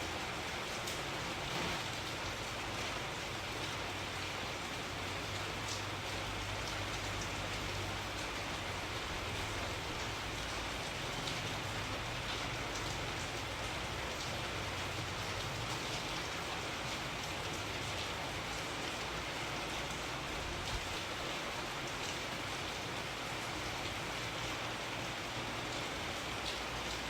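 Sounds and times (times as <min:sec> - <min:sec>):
raindrops ticking on a surface: 0:00.0 - 0:27.0
steady rain hiss: 0:00.0 - 0:27.0.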